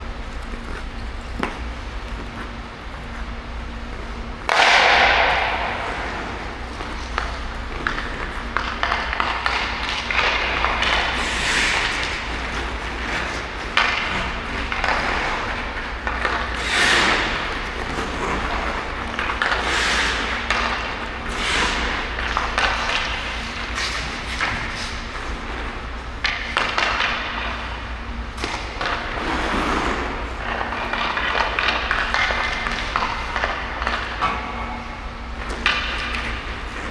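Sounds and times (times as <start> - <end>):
skates scraping on ice: 0.0 - 36.9
steady low hum: 0.0 - 36.9.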